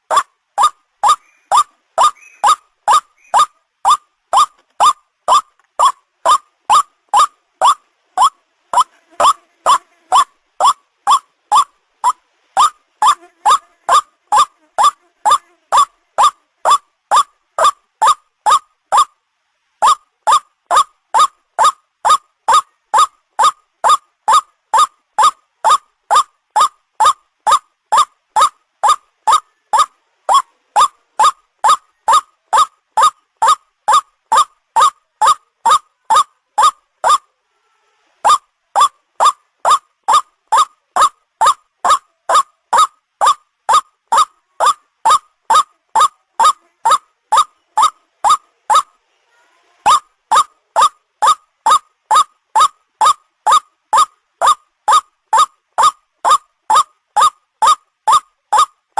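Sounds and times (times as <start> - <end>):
waterhen calling: 0.0 - 19.1, 19.8 - 37.3, 38.2 - 48.9, 49.8 - 58.8.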